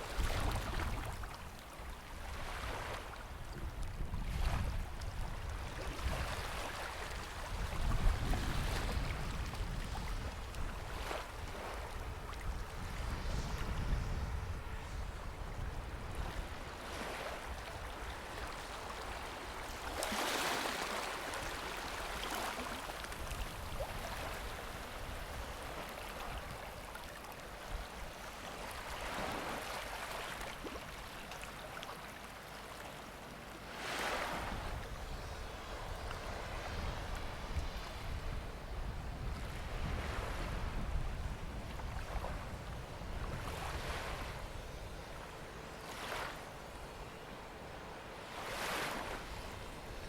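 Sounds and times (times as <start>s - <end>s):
small waves breaking on sand: 0.0s - 50.0s.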